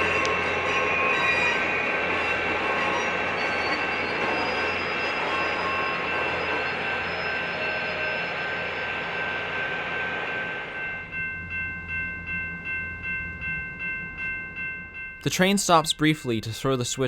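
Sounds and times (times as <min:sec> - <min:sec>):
railroad crossing bell ringing: 0:00.0 - 0:17.0
train wheels on rails: 0:00.0 - 0:17.0.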